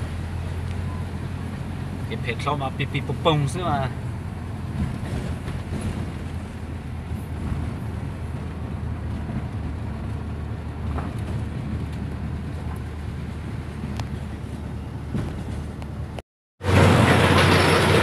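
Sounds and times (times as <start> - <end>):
truck engine: 0.0 - 18.0
tyre noise on rough road: 0.0 - 18.0.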